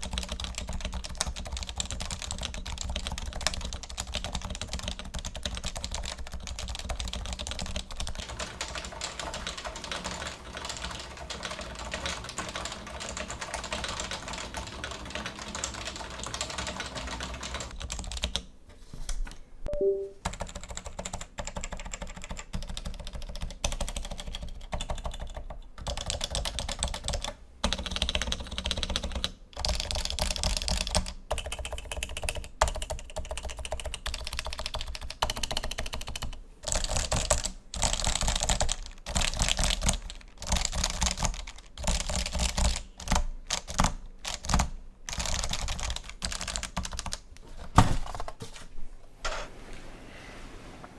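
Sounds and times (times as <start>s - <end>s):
fast keyboard typing: 0.0s - 18.5s, 19.8s - 47.3s.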